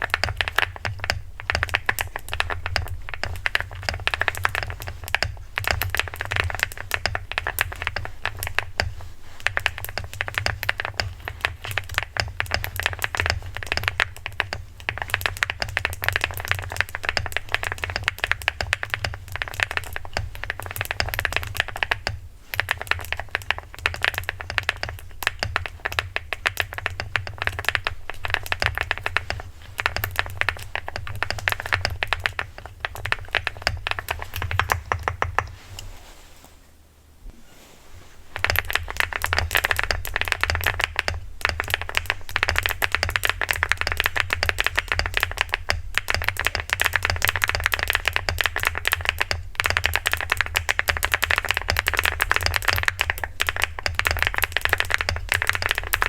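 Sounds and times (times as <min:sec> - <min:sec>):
fast typing on mechanical keyboard: 0:00.0 - 0:35.6, 0:38.4 - 0:56.0.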